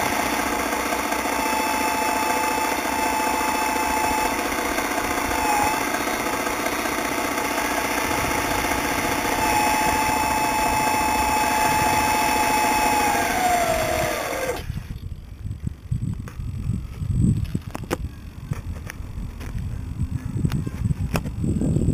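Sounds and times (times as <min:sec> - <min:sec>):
hydraulic pump buzzing whine: 0:00.0 - 0:21.8.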